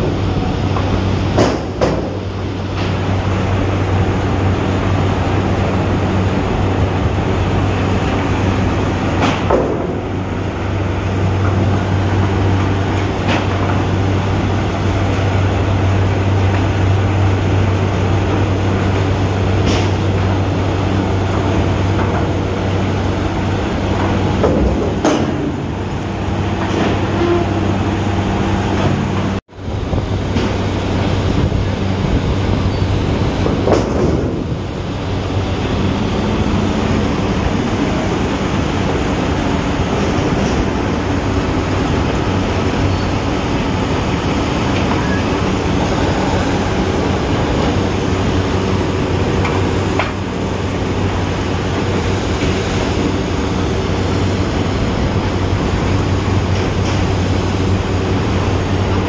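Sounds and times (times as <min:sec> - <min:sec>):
heavy machinery clattering: 0:00.0 - 0:59.0.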